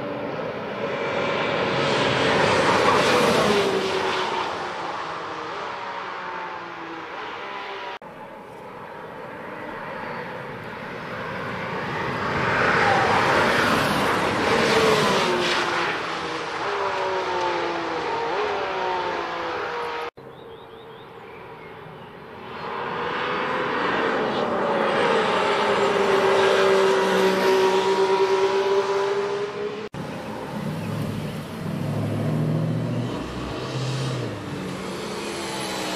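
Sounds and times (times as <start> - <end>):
race car engine passing by: 0.0 - 8.0, 9.2 - 20.1, 22.4 - 35.9.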